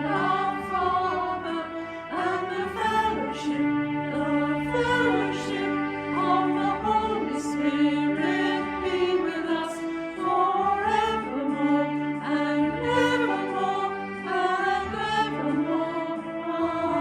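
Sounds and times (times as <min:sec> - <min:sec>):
sung melody: 0:00.0 - 0:17.0
sustained accompaniment chords: 0:00.0 - 0:17.0.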